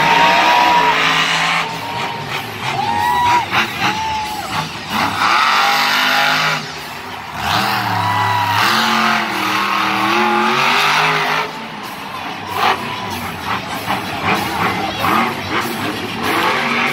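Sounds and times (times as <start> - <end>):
truck engine revving hard: 0.0 - 16.9.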